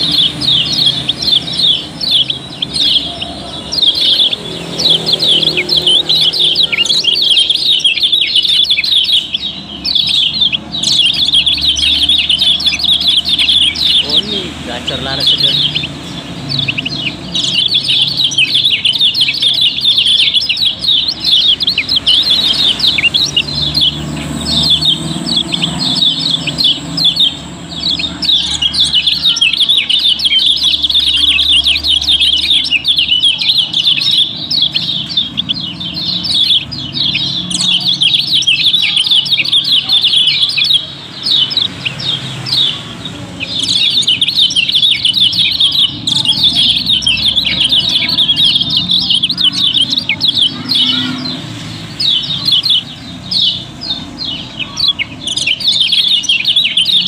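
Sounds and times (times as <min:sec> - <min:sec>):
birds chirping in chorus: 0:00.0 - 0:57.0.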